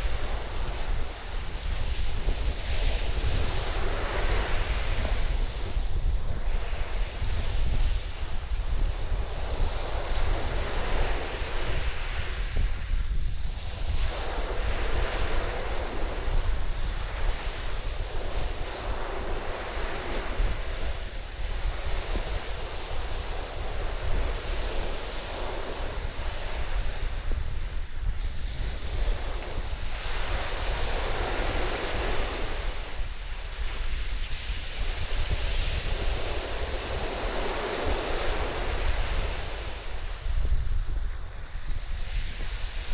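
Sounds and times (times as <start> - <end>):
surf washing up a beach: 0.0 - 42.9
wind buffeting microphone: 0.0 - 42.9.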